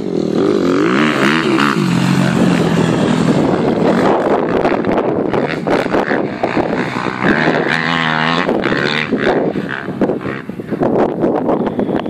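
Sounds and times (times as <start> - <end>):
dirt bike engine revving: 0.0 - 11.1.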